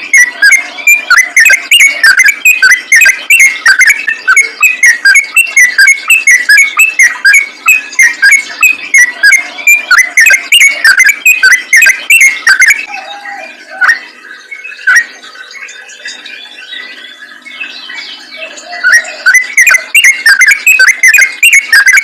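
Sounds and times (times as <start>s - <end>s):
bird singing bubbly whistled notes: 0.0s - 22.0s
faint bird calls: 0.0s - 22.0s.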